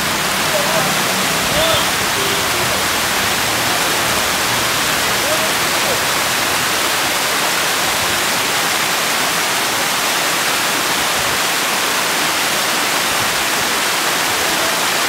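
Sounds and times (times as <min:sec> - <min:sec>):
waterfall rushing onto rocks: 0:00.0 - 0:15.0.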